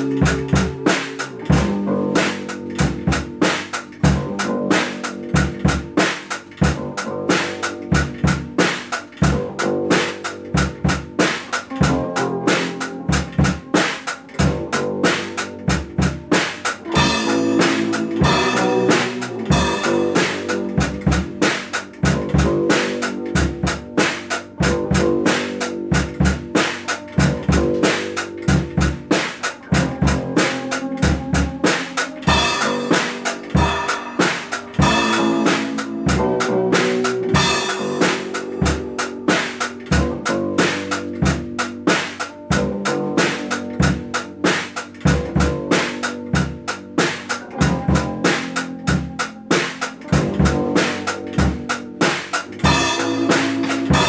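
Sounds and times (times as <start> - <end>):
drum kit beat: 0.0 - 54.0.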